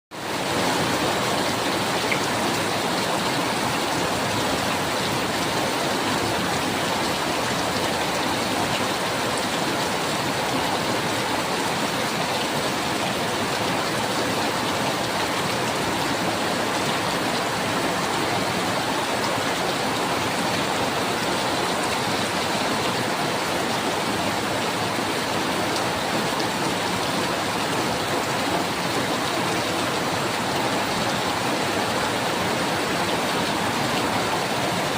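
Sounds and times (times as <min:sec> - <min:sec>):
heavy rainfall: 0:00.1 - 0:34.9.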